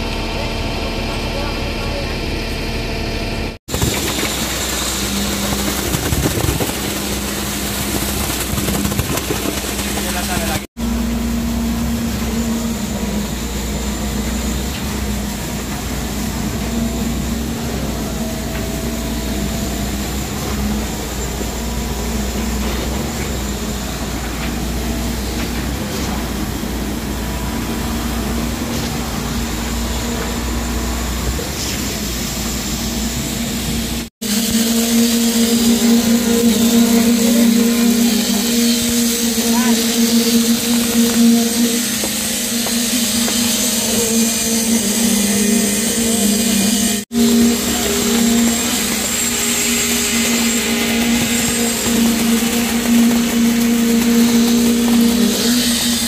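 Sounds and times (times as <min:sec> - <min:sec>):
construction machinery hum: 0:00.0 - 0:56.0.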